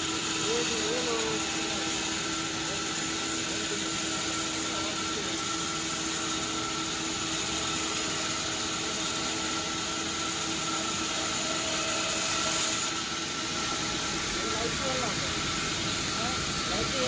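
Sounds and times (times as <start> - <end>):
saw running with high whine: 0.0 - 17.0.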